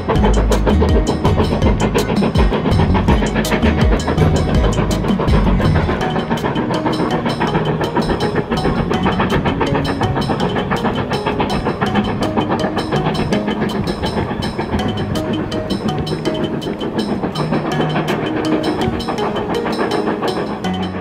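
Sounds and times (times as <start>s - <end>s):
music with percussive beat: 0.0s - 21.0s.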